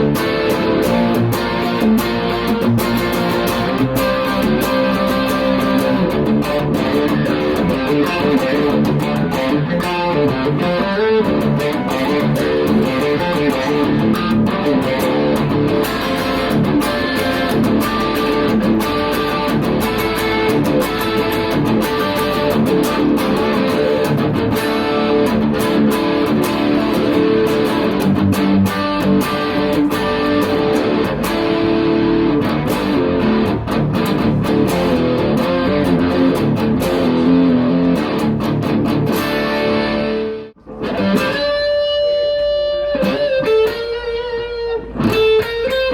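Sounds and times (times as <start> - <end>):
electric guitar through amp: 0.0 - 45.9.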